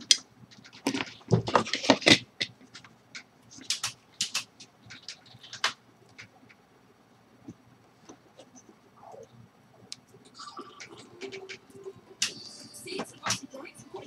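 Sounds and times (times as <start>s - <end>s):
small parts and wires clicking: 0.0s - 6.6s, 7.4s - 13.6s.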